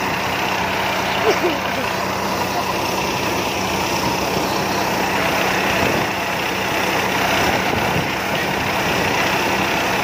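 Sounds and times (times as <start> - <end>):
combine harvester engine drone: 0.0 - 10.0.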